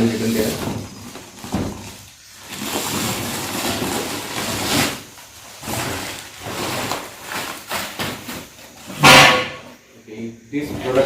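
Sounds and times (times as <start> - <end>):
cardboard box scraping and rustling: 0.0 - 9.0.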